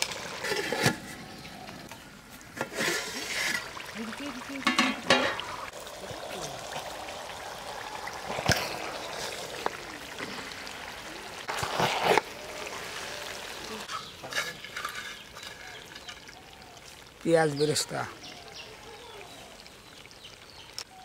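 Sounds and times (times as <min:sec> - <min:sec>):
pot bubbling: 0:00.0 - 0:21.0.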